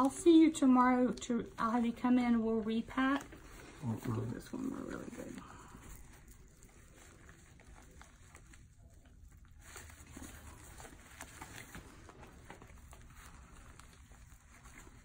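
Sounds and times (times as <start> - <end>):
faint low room hum: 0.0 - 15.0
gloved hands rustling: 1.9 - 15.0.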